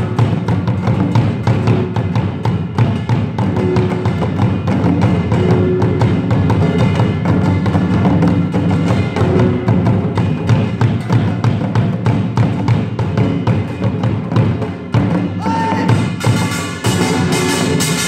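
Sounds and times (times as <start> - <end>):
drums beaten in fast rhythm: 0.0 - 18.0.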